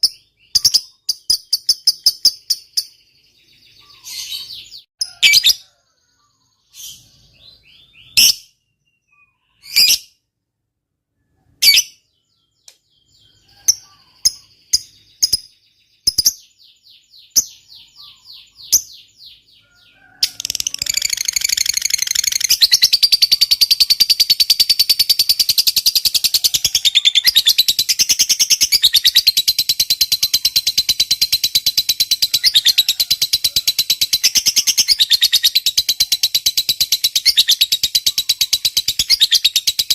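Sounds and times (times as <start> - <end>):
lovebird chirping and trilling: 0.0 - 10.2, 11.2 - 39.9.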